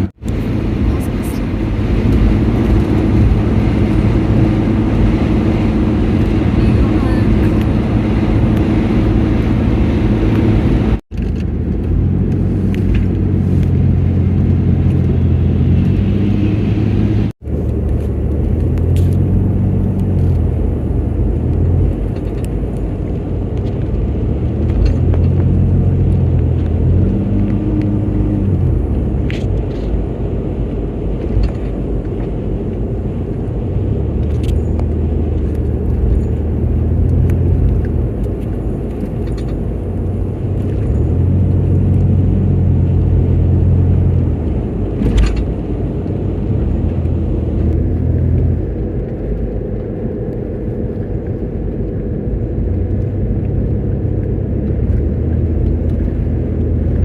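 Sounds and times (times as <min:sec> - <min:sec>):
road rumble: 0:00.0 - 0:57.0
vehicle engine drone: 0:00.0 - 0:57.0.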